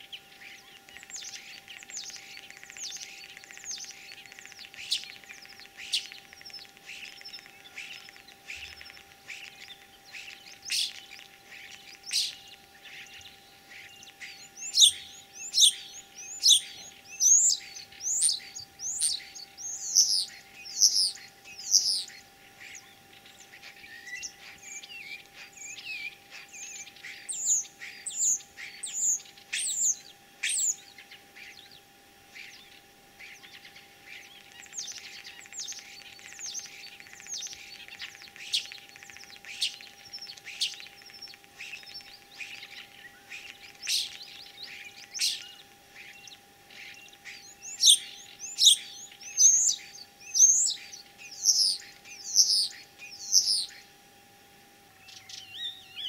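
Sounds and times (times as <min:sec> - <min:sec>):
starling singing: 0:00.2 - 0:31.8, 0:32.4 - 0:53.8.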